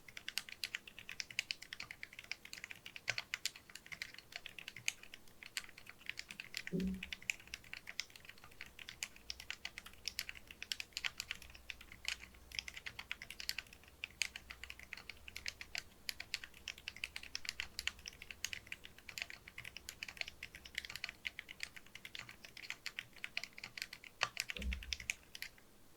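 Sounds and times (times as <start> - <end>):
soft muted keyboard typing: 0.0 - 25.7.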